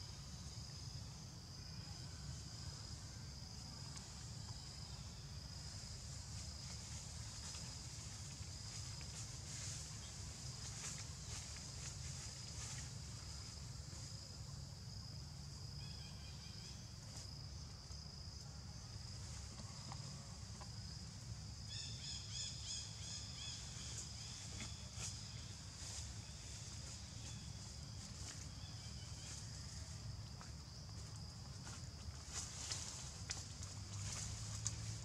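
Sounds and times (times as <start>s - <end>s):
insects droning: 0.0s - 35.0s.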